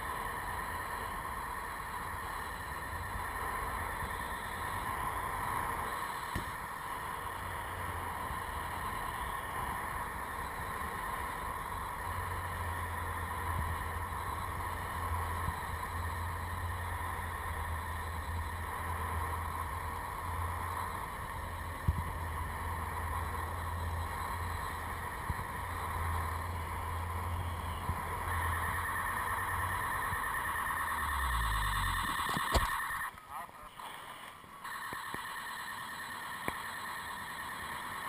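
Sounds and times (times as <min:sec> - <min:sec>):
faint high hum: 0:00.0 - 0:38.0.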